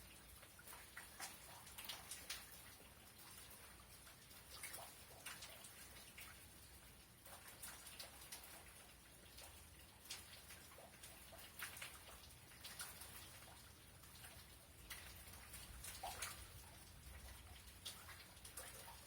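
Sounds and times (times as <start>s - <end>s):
faint rain: 0.0s - 19.0s.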